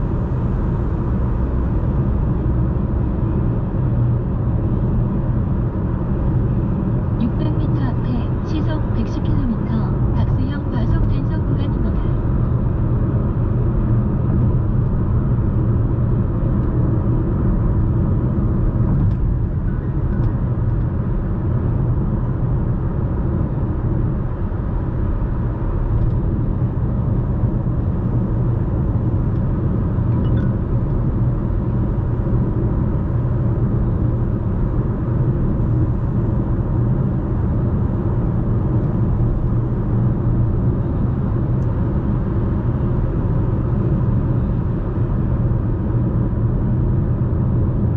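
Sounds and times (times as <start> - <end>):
road and tyre rumble in car: 0.0 - 47.9.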